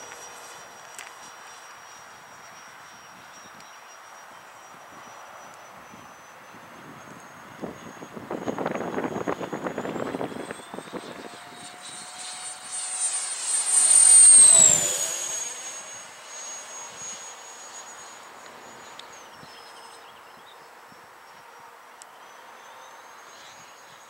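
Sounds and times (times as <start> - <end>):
model jet fan whining past: 0.0 - 24.0.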